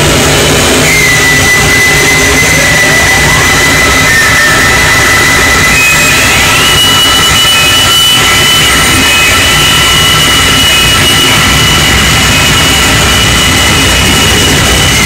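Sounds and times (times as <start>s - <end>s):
harsh electronic noise: 0.0s - 15.0s
high whistling tones: 0.6s - 15.0s.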